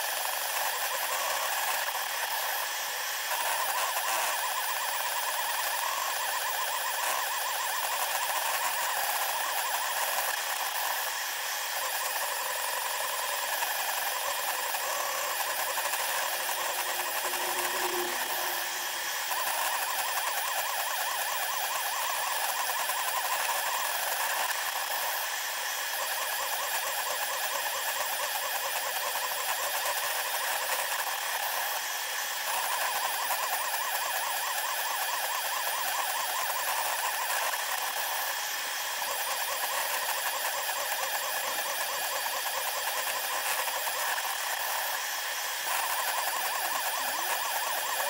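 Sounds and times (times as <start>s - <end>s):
printer motors whirring: 0.0s - 48.0s.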